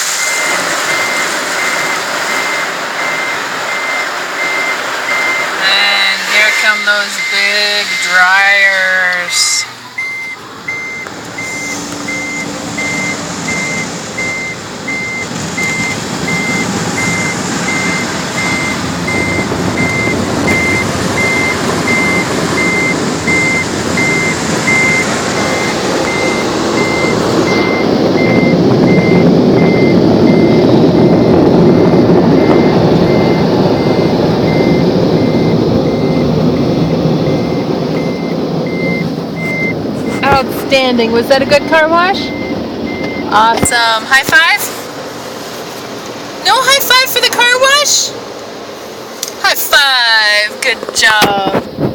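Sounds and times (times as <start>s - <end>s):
car wash blowers roaring: 0.0s - 51.9s
repeating beep: 0.2s - 36.3s, 37.2s - 40.4s, 41.3s - 44.6s.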